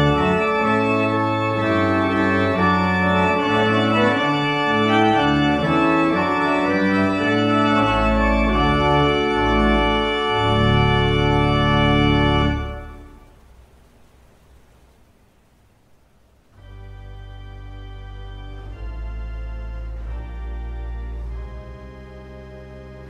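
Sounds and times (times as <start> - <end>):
organ music: 0.0 - 13.3, 16.6 - 23.0.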